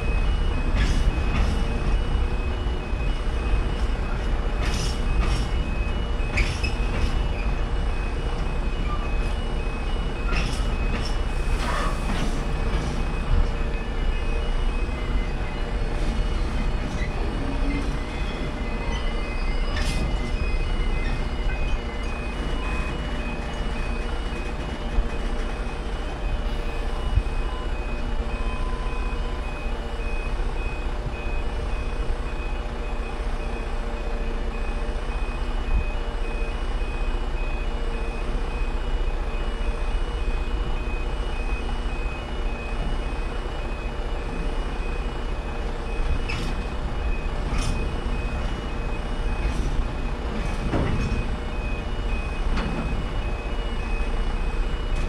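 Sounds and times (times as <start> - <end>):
freight train wagons rolling: 0.0 - 30.0, 39.8 - 55.0
level crossing alarm beeping: 0.0 - 55.0.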